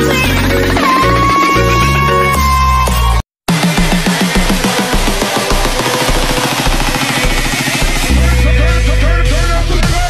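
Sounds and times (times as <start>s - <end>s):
rising synth figure: 0.0s - 8.2s
electronic music with heavy bass: 0.0s - 10.0s.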